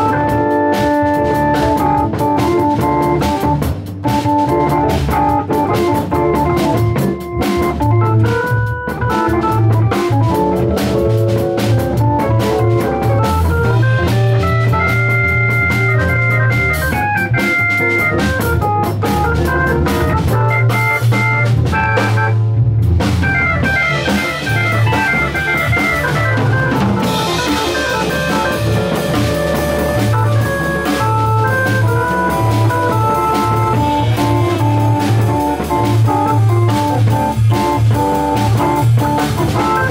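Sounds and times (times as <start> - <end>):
drawbar organ: 0.0 - 39.9
drum kit: 0.0 - 39.9
electric guitar: 0.0 - 39.9
low bass line: 0.0 - 39.9.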